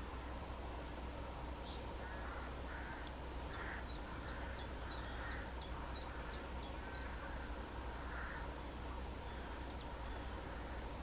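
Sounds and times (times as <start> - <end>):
fainter lower bird calls: 1.4 - 11.0
small songbird singing: 1.4 - 11.0.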